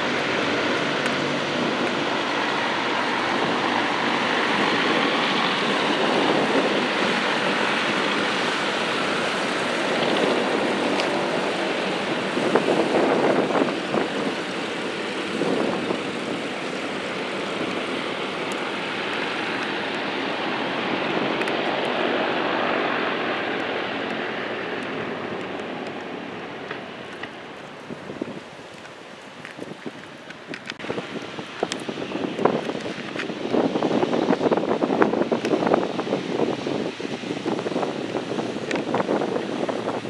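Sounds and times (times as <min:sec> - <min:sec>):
aircraft engine rushing: 0:00.0 - 0:40.0.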